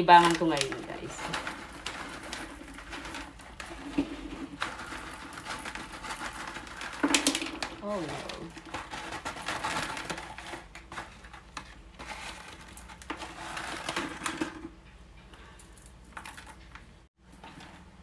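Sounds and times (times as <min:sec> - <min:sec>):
plastic bag crinkling: 0:00.0 - 0:14.5
pebbles clicking and rattling: 0:00.0 - 0:14.8, 0:15.4 - 0:18.0.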